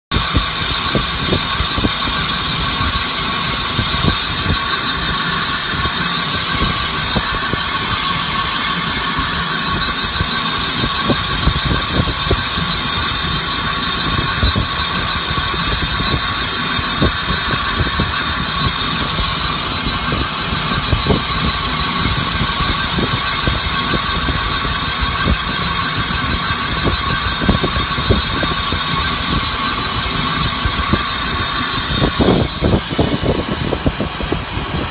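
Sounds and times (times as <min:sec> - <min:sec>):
machine tool cutting metal: 0:00.1 - 0:34.9.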